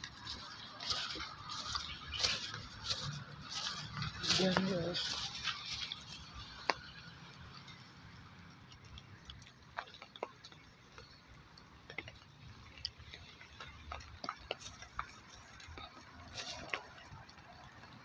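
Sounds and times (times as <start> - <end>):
raindrops ticking on hard surface: 0.0 - 18.0.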